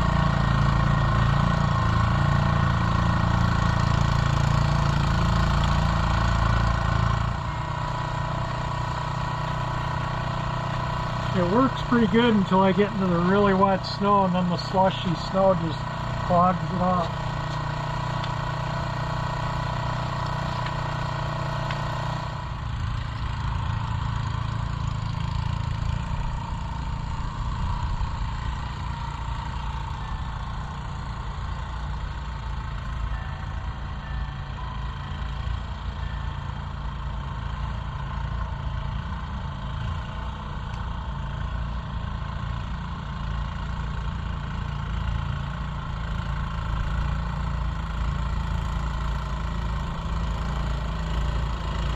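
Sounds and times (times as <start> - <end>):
snowblower engine running: 0.0 - 51.9.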